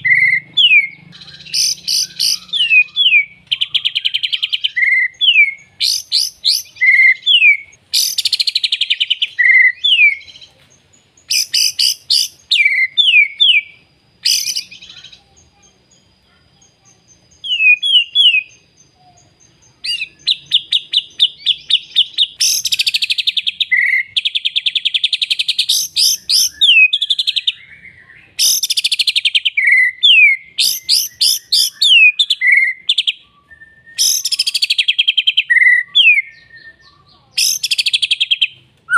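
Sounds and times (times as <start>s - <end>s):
songbird trilling and whistling: 0.0s - 38.9s.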